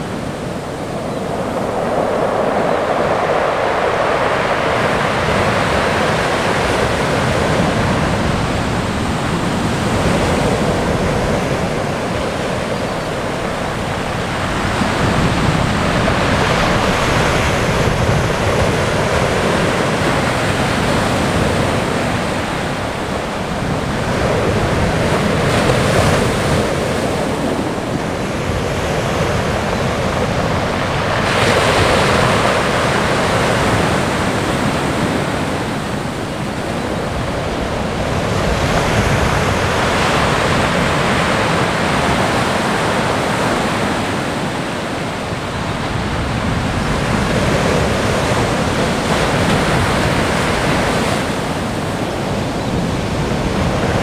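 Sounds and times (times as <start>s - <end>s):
surf breaking on shore: 0.0s - 54.0s.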